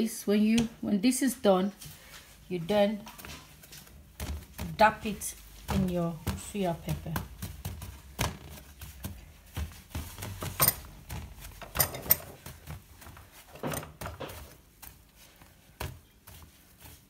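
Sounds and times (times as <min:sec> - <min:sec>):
soft rustling of gloves: 0:00.0 - 0:17.0.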